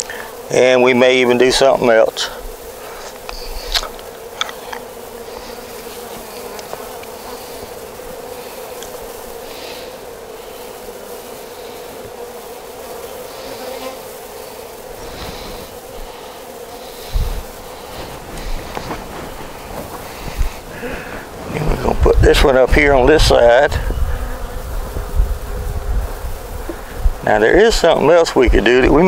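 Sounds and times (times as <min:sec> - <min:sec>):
honey bees humming: 0:00.0 - 0:29.0.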